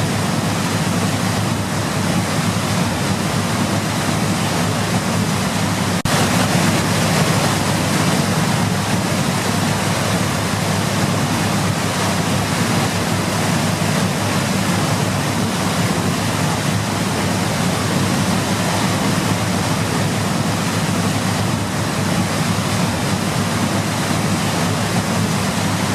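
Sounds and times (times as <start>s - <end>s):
rushing water: 0.0s - 25.9s.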